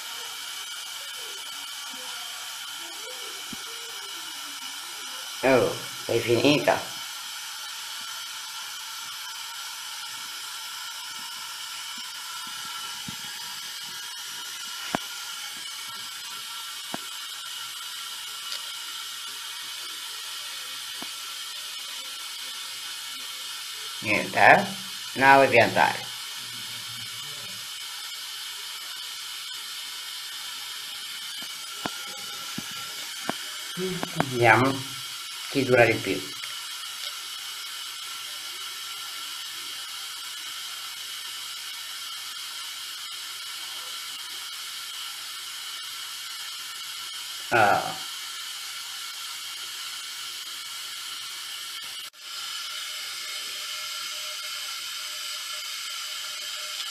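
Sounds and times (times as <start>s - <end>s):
steady high-pitched hiss: 0.0s - 56.9s.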